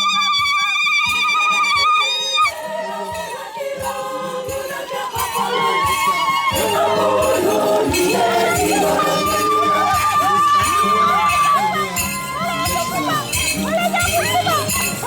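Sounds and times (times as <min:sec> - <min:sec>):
church choir singing: 0:00.5 - 0:15.0.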